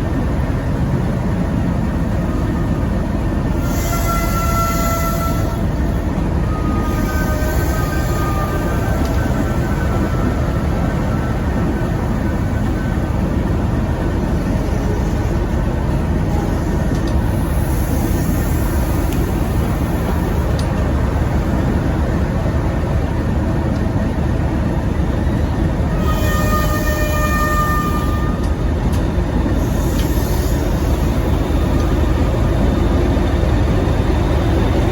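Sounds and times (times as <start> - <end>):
diesel locomotive rumbling: 0.0 - 34.9.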